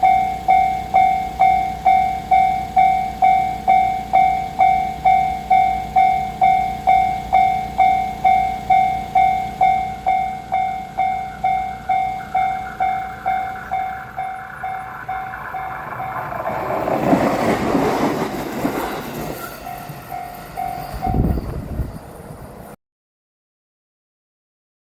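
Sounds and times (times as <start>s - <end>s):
electric train passing: 0.0s - 22.8s
level-crossing bell ringing: 0.0s - 22.8s.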